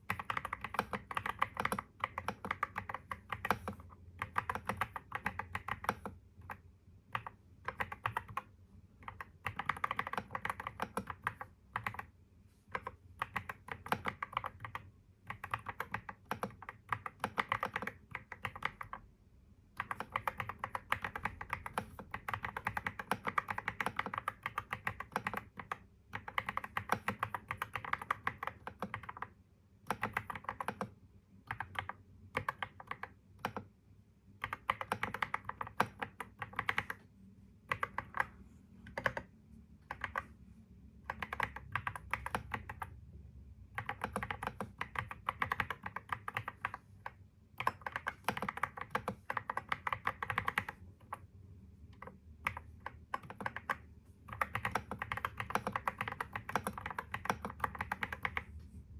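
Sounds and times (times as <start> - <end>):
computer keyboard typing: 0.0 - 19.1, 19.7 - 33.8, 34.4 - 43.0, 43.6 - 51.3, 51.9 - 58.7.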